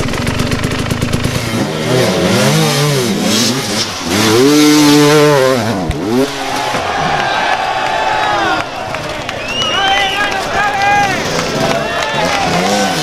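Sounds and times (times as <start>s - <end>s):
dirt bike engine revving: 0.0s - 9.6s, 10.4s - 13.0s.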